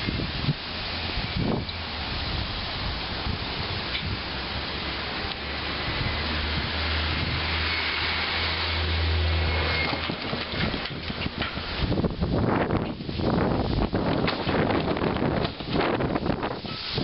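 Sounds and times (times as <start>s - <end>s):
traffic engine hum: 0.0s - 17.0s
wind on microphone: 0.0s - 17.0s.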